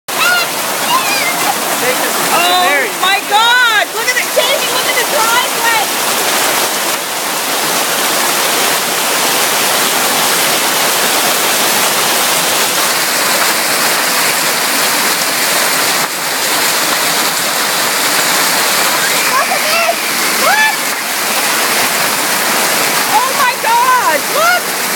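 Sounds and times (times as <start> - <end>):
torrential rain pouring: 0.1 - 24.9.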